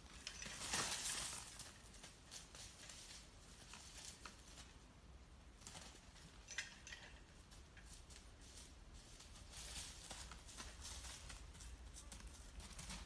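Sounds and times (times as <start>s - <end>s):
rustling and scuffing: 0.0s - 5.0s, 7.2s - 13.0s.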